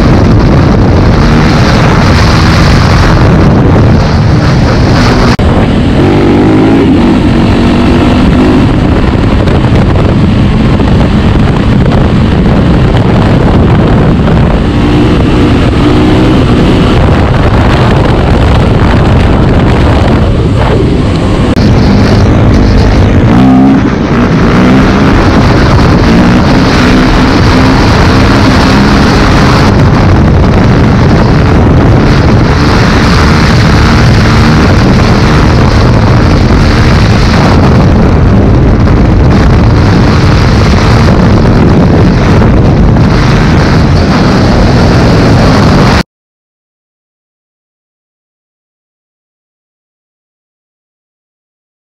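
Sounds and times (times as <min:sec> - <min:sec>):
motocross bike engines revving: 0:00.0 - 0:46.0
wind buffeting microphone: 0:00.0 - 0:46.0.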